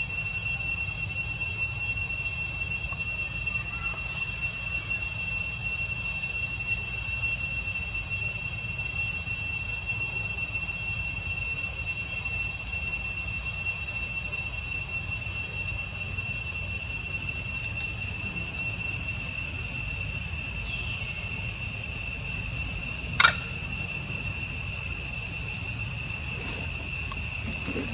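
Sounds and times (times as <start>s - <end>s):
shrill insect chorus: 0.0s - 27.9s.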